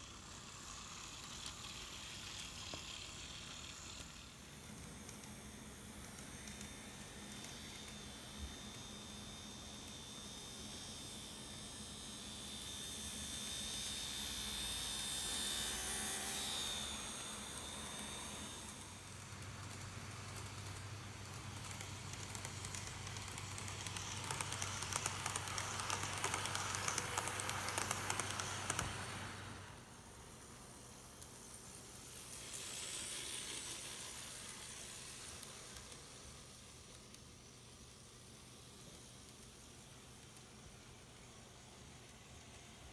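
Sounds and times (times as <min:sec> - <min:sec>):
model train passing: 0:00.0 - 0:42.9.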